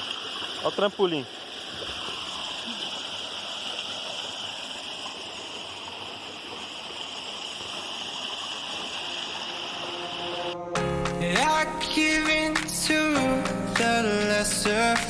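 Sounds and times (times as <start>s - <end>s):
waterfall and stream rushing: 0.0s - 12.9s.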